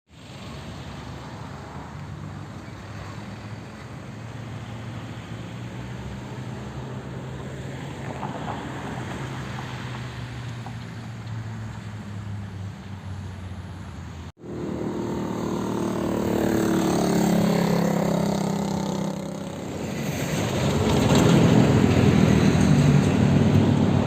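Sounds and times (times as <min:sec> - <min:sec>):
road noise: 0:00.1 - 0:24.0
car engine hum: 0:00.2 - 0:24.0.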